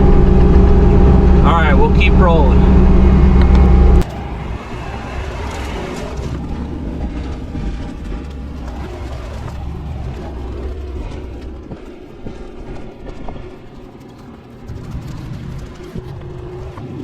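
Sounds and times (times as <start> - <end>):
track loader engine rumble: 0.0 - 17.0.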